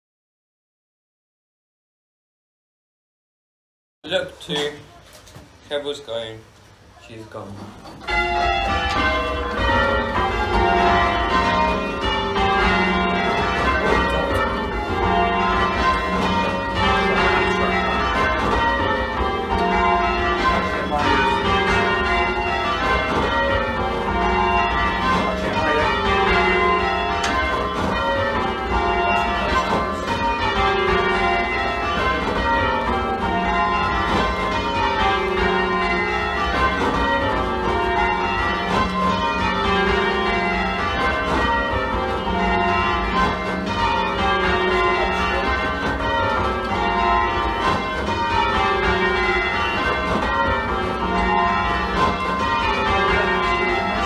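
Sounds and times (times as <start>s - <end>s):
church bells ringing rounds: 8.0s - 54.0s.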